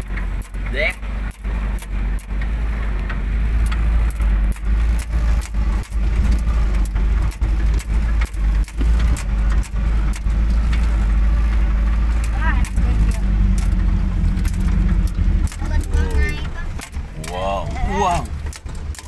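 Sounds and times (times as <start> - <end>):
vehicle engine and low rumble: 0.0 - 19.0
vehicle knocks and rattles: 0.0 - 19.0.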